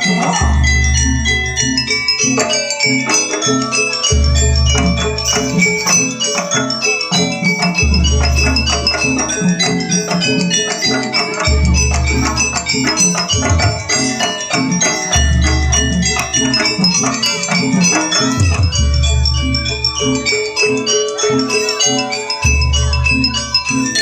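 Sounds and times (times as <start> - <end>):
metallophones interlocking pattern: 0.0 - 24.0.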